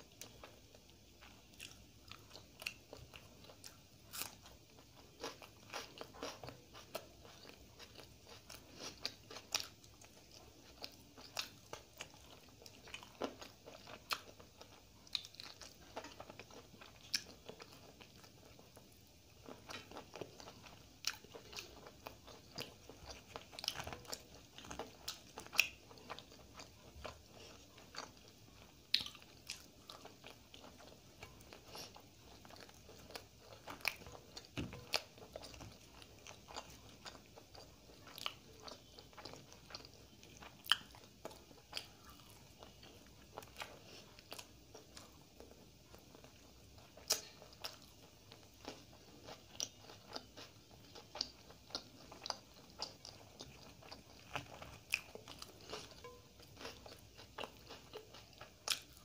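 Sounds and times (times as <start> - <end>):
chewing with wet mouth clicks: 0.0 - 18.8, 19.4 - 59.0.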